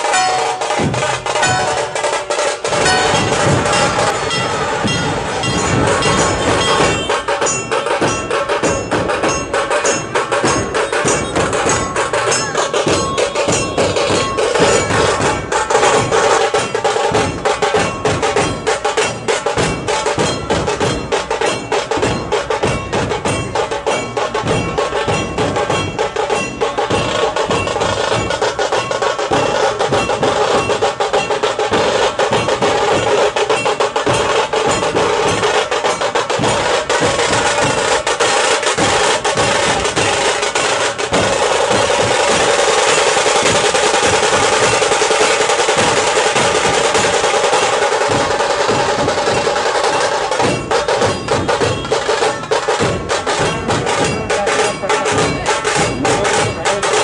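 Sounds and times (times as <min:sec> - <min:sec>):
dhol drums beaten together: 0:00.0 - 0:57.0.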